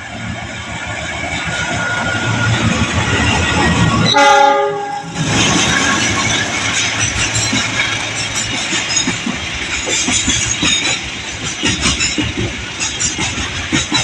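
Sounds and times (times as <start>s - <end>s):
steady train rumble: 0.0s - 14.0s
train wheels clacking on rail joints: 0.0s - 14.0s.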